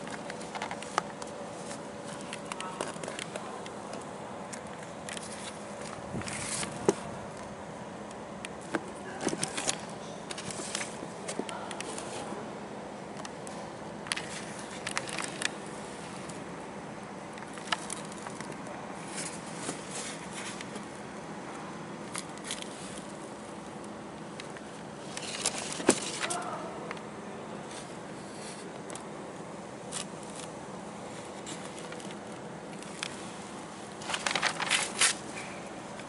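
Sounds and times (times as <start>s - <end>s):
sneakers handling clicks and rustles: 0.0s - 12.4s, 13.1s - 16.5s, 17.3s - 29.2s, 29.8s - 36.0s.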